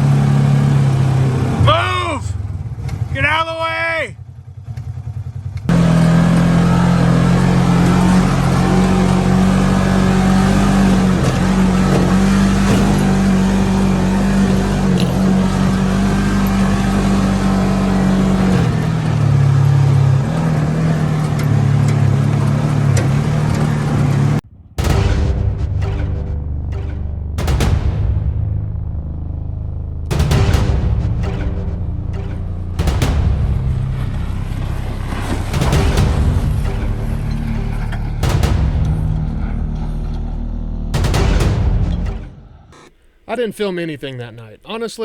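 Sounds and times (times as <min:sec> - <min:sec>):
wind and ride noise: 0:00.0 - 0:42.9
off-road vehicle engine: 0:00.0 - 0:43.4.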